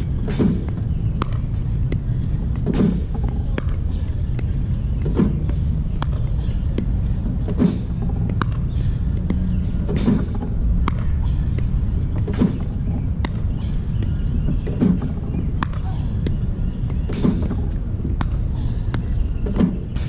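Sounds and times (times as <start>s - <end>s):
paddle hitting ball pops: 0.2s - 20.0s.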